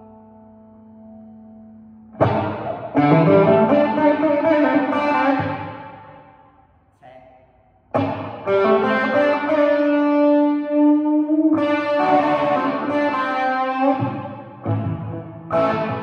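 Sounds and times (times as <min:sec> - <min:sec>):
electric guitar chords: 0:00.0 - 0:06.3, 0:07.9 - 0:16.0.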